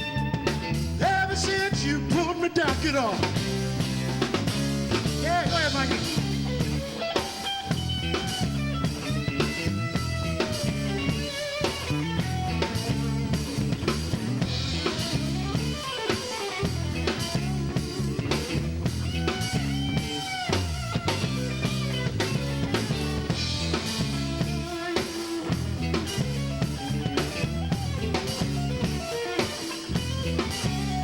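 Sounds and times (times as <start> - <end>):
bass line: 0.0 - 31.0
drums: 0.0 - 31.0
lead guitar solo: 0.0 - 31.0.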